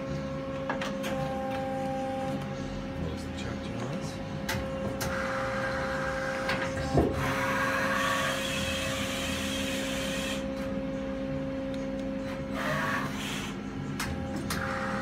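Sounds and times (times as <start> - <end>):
machine humming at idle: 0.0 - 15.0.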